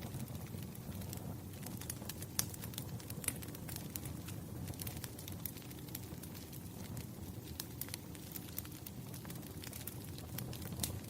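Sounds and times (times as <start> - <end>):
sharp pops and snaps of fire: 0.0 - 11.0
wood fire crackling: 0.0 - 11.0.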